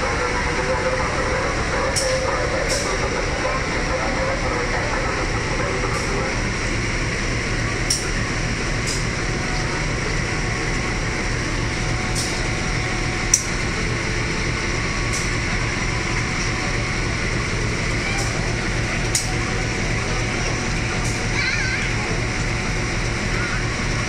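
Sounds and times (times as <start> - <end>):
locomotive diesel engine idling: 0.0 - 24.0.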